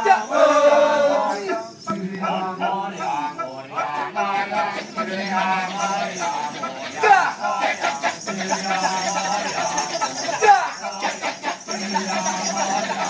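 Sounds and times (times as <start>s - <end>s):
men chanting in chorus: 0.0s - 13.0s.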